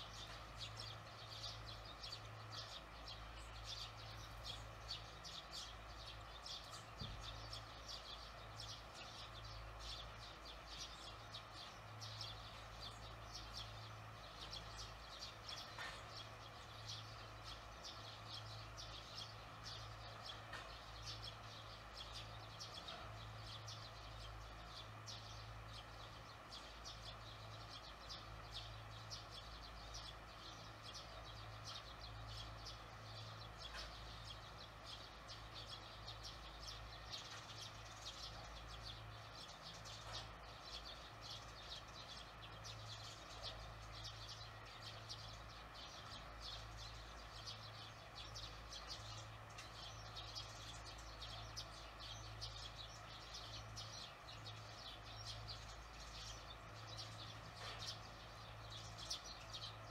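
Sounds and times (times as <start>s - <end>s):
swallows twittering: 0.0s - 59.9s.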